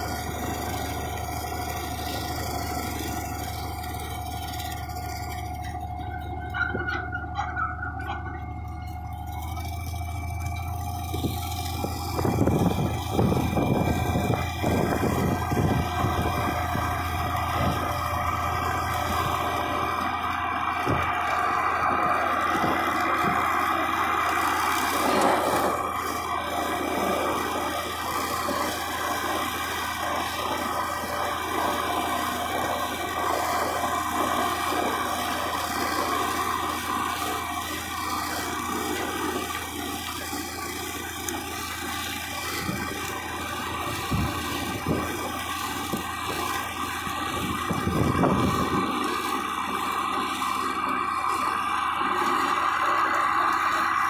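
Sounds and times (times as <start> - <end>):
disc mower cutting grass: 0.0 - 54.0
tractor engine running: 0.0 - 54.0.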